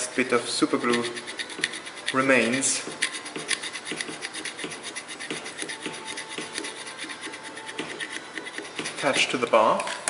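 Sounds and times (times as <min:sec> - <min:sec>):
sandpaper scratching on metal: 0:00.0 - 0:09.5.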